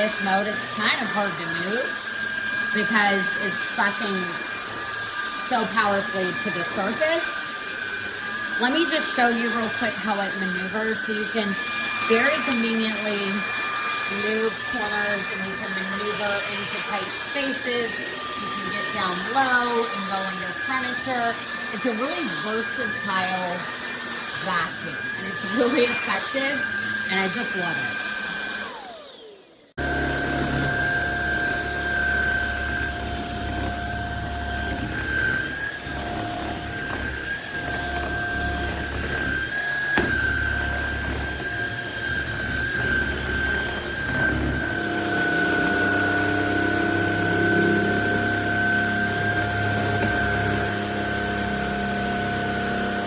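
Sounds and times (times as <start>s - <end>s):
vacuum motor whining: 0.0s - 53.0s.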